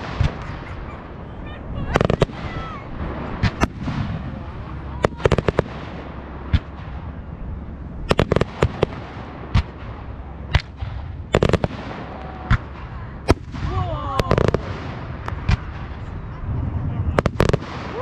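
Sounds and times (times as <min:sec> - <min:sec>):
fireworks bangs: 0:00.0 - 0:18.0
low rumble: 0:00.0 - 0:18.0.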